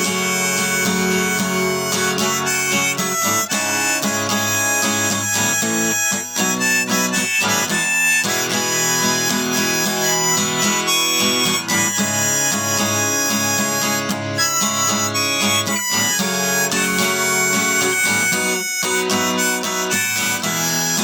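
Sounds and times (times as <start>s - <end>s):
harmonica melody: 0.0s - 21.0s
strummed acoustic guitar: 0.0s - 21.0s.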